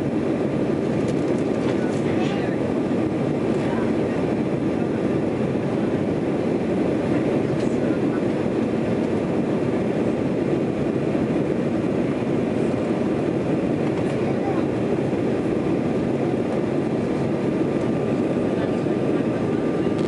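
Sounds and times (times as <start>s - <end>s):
airflow over fuselage: 0.0s - 20.0s
airliner cabin engine drone: 0.0s - 20.0s.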